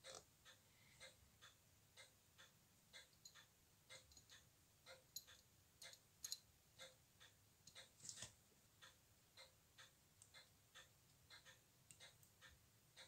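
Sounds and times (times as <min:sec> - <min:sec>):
faint steady ticking: 0:00.0 - 0:13.0.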